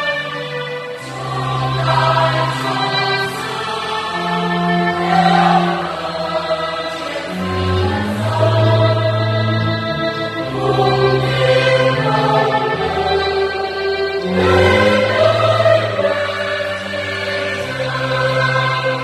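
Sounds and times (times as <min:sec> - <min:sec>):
mixed choir singing a hymn: 0:00.0 - 0:19.0.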